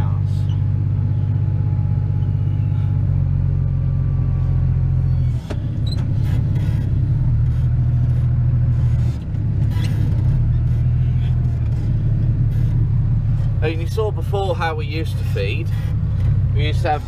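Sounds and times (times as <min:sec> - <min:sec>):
tractor engine drone: 0:00.0 - 0:17.0.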